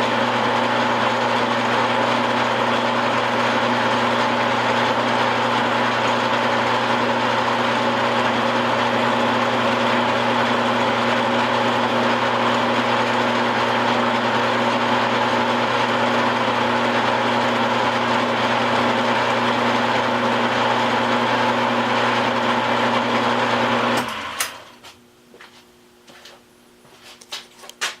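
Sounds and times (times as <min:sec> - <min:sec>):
milling machine humming: 0:00.0 - 0:24.8.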